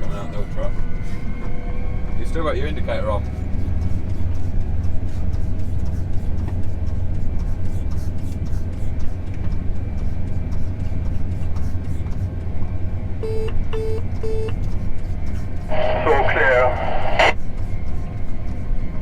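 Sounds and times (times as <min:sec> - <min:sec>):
road noise: 0:00.0 - 0:19.0
vehicle engine running: 0:02.3 - 0:19.0.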